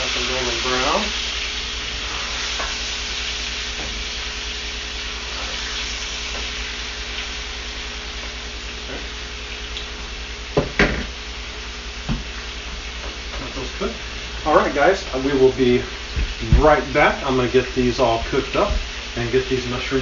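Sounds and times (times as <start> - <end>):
meat sizzling in a skillet: 0.0 - 20.0.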